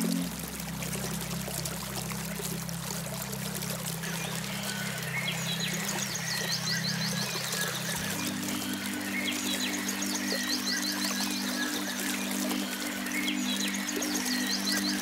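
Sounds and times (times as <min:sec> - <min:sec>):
flowing water: 0:00.0 - 0:15.0.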